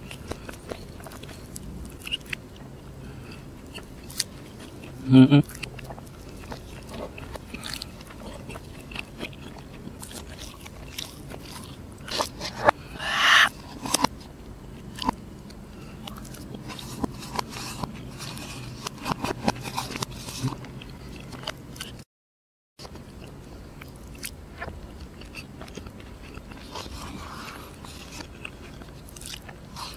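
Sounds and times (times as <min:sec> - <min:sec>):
chewing and mouth smacking: 0:00.0 - 0:14.2, 0:14.8 - 0:22.0, 0:22.8 - 0:29.9.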